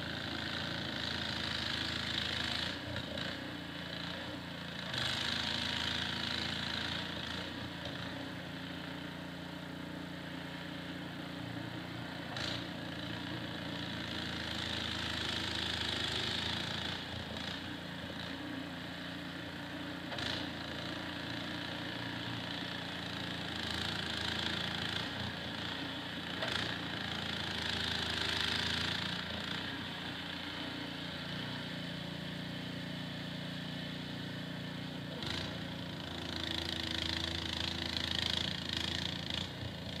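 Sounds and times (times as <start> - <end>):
snowblower engine running: 0.0 - 40.0.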